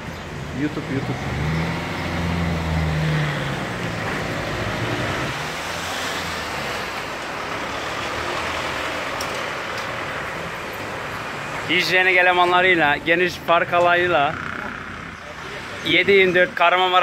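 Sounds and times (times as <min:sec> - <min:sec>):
road noise from passing cars: 0:00.0 - 0:17.0
vehicle engine humming: 0:00.0 - 0:17.0.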